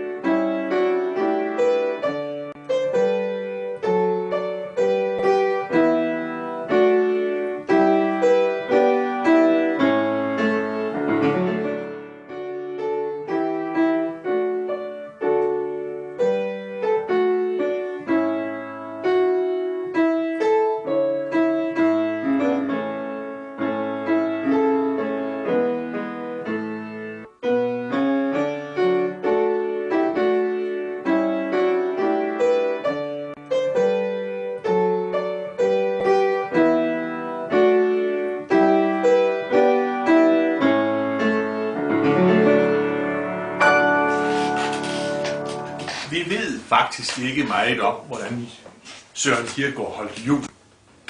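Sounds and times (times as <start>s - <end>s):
grand piano melody with chords: 0.0s - 48.6s.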